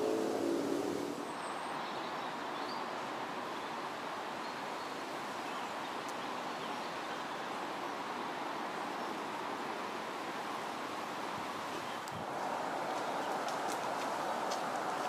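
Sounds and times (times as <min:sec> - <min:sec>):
wind rustling leaves: 0:00.0 - 0:15.0.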